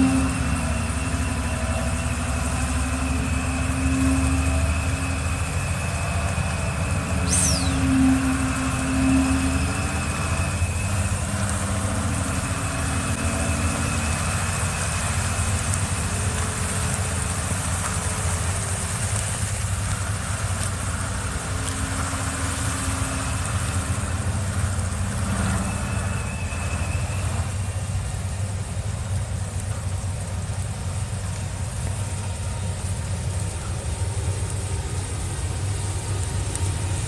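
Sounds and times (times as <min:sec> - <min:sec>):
faint high whine: 0:00.0 - 0:37.0
heavy machine engine droning: 0:00.0 - 0:37.0.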